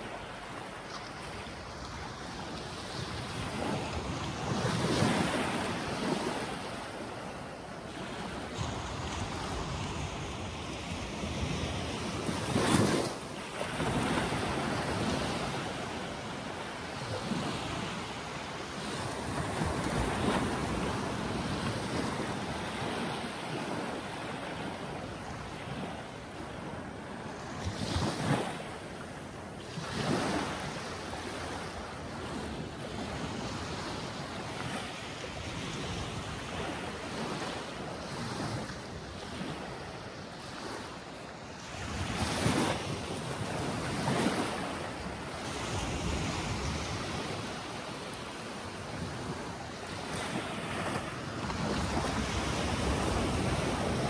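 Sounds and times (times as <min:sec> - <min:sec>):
wind rumble on microphone: 0:00.0 - 0:40.9, 0:41.6 - 0:54.0
sea waves breaking on shore: 0:00.0 - 0:54.0.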